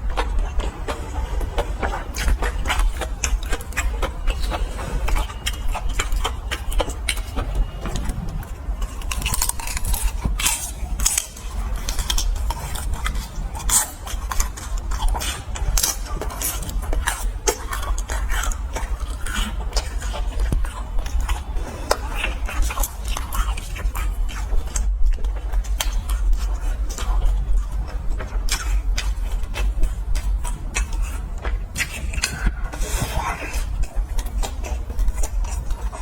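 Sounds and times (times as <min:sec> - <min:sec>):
crunching and chewing fried food: 0:00.0 - 0:36.0
steady low hum: 0:00.0 - 0:36.0.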